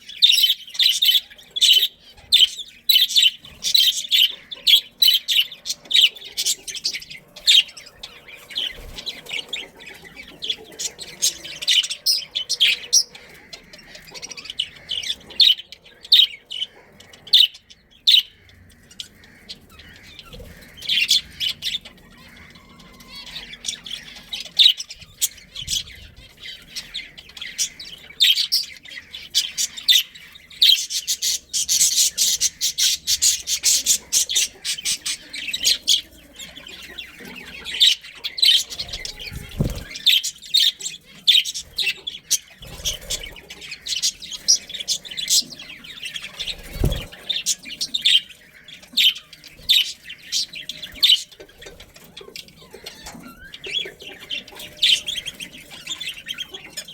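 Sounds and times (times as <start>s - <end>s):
budgerigars chirping and squawking: 0.0s - 56.9s.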